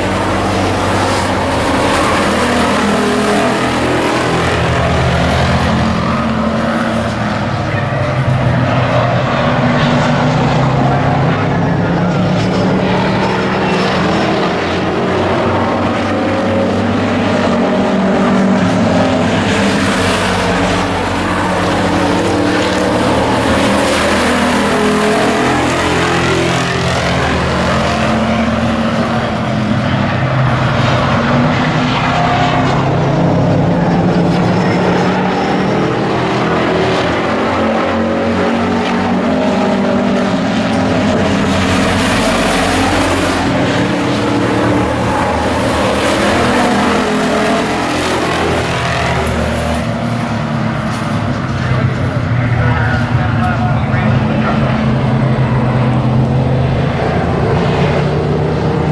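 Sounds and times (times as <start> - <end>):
race truck engines at speed: 0.0 - 58.9.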